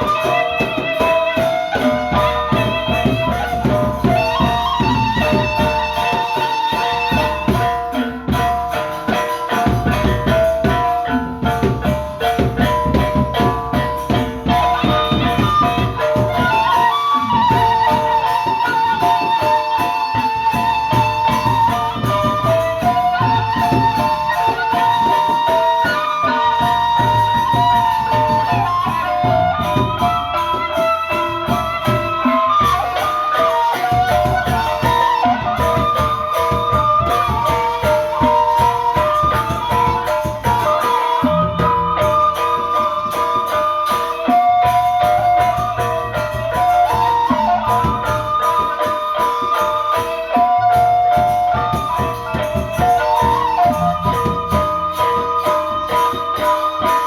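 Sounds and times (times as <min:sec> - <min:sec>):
rapid drum strokes: 0:00.0 - 0:57.0
wind instrument melody: 0:00.0 - 0:57.0.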